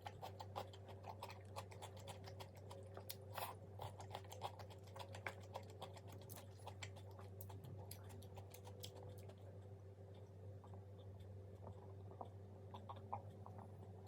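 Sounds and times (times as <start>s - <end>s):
crunchy chewing of fried food: 0.0s - 14.0s
steady low hum: 0.0s - 14.0s.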